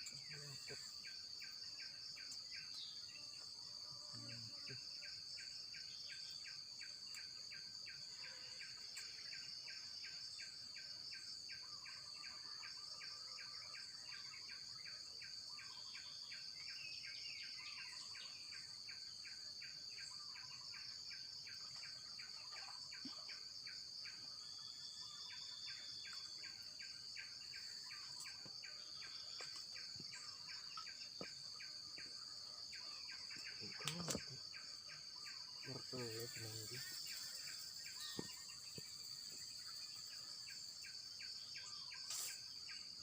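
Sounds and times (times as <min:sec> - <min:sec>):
insects chirping: 0:00.0 - 0:43.0
insects droning: 0:00.0 - 0:43.0.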